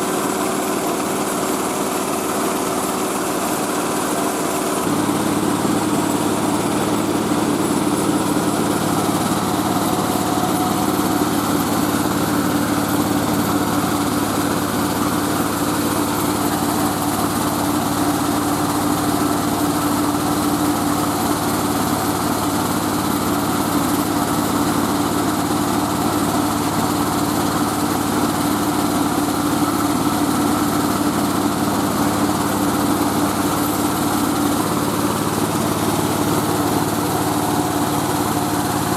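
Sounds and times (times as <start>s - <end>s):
rice-milling machine humming: 0.0s - 38.9s.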